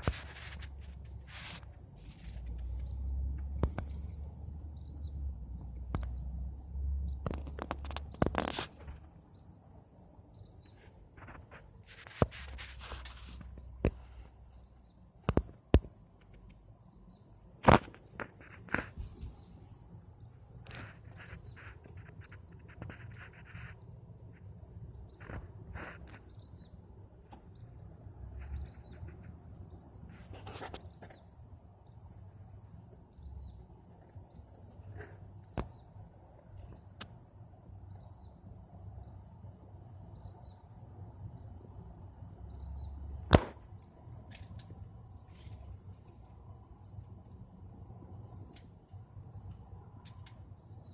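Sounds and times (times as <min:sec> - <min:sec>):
bird chirping: 0:00.0 - 0:50.9
steady low hum: 0:00.0 - 0:50.9.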